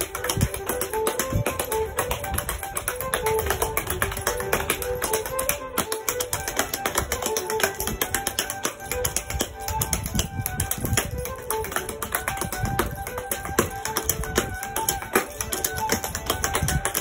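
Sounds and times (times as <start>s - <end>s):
tap shoes on floor: 0.0s - 17.0s
traditional folk music: 0.0s - 17.0s.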